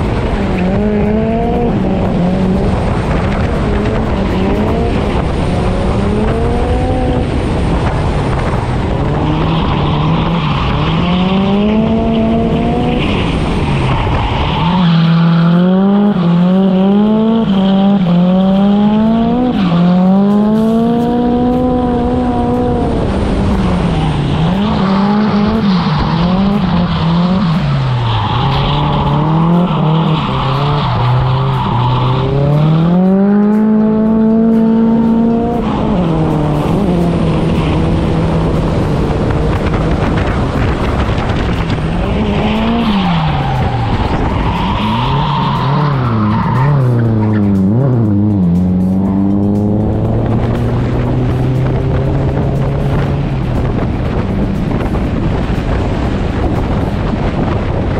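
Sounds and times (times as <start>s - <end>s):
car engines revving hard: 0.0s - 57.9s.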